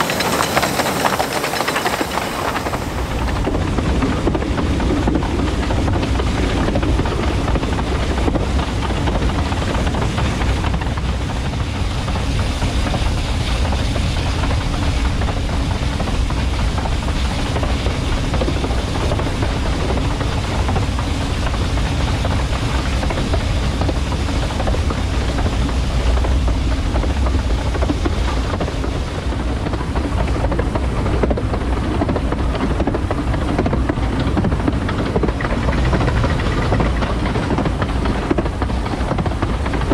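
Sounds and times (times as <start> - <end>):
steam train rumbling: 0.0 - 39.9
train rattling: 0.0 - 39.9.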